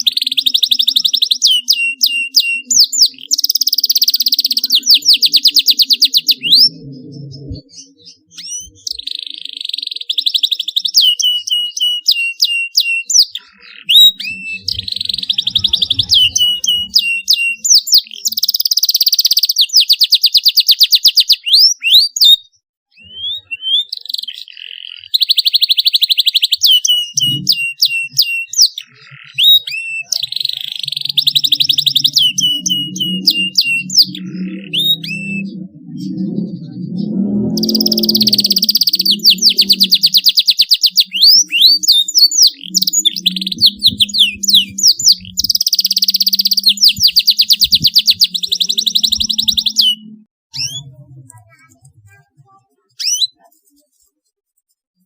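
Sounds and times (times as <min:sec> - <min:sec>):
canary chirping and trilling: 0:00.0 - 0:54.7.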